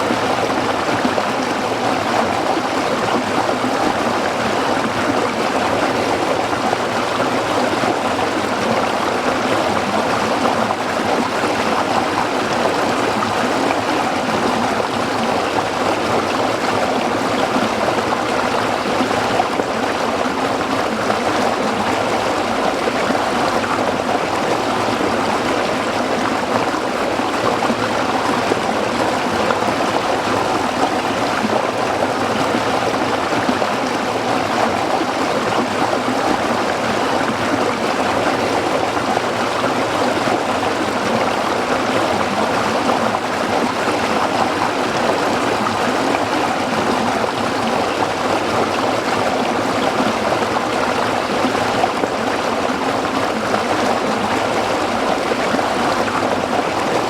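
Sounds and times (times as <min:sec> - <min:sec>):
brook flowing over rocks: 0:00.0 - 0:57.0.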